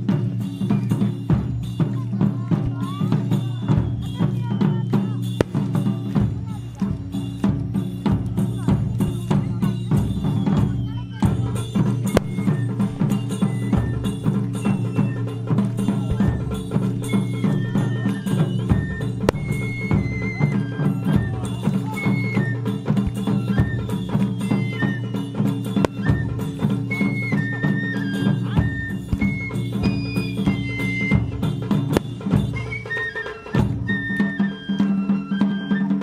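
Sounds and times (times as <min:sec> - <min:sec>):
taiko drums playing fast rhythm: 0:00.0 - 0:36.0
high melody of held notes: 0:02.8 - 0:36.0.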